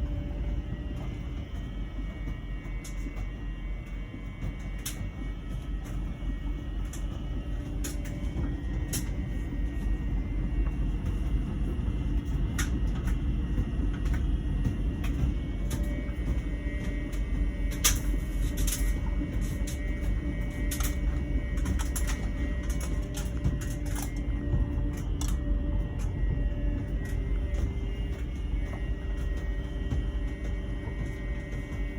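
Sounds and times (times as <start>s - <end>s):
dryer humming and buzzing: 0.0s - 31.9s.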